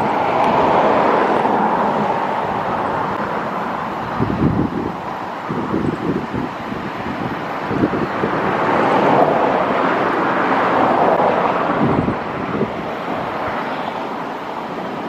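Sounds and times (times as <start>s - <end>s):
rushing noise: 0.0s - 15.0s
wind buffeting microphone: 0.0s - 15.0s.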